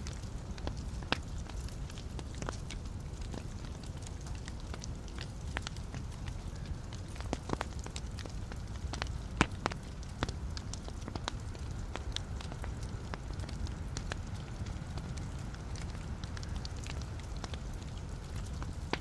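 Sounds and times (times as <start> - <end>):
logs crackling and popping: 0.0 - 19.0
low rumble of flame: 0.0 - 19.0.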